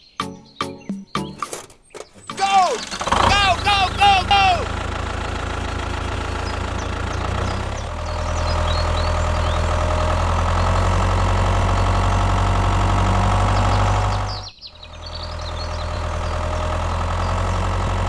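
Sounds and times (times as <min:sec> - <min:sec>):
tractor engine idling: 0:02.2 - 0:18.0.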